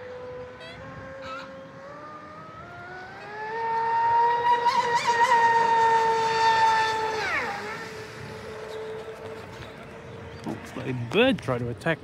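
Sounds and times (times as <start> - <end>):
high-pitched electric motor whine: 0.0 - 9.9.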